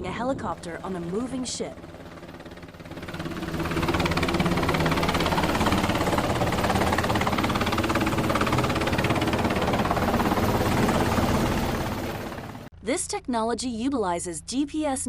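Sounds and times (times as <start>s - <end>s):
helicopter engine and rotor: 0.0s - 12.7s.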